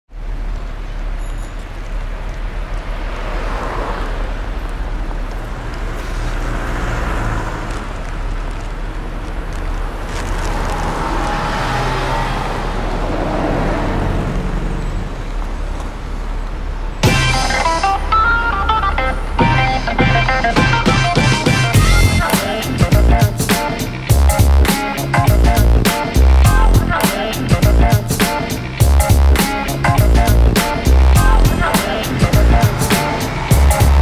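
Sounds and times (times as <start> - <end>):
traffic rumble: 0.1 - 34.0
vehicles passing: 0.1 - 34.0.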